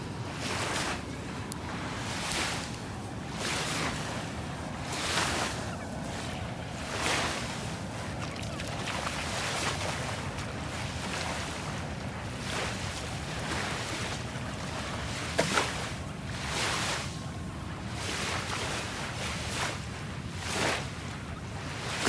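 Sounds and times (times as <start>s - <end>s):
small waves lapping on sand: 0.0s - 22.0s
wind rumble on microphone: 0.0s - 22.0s.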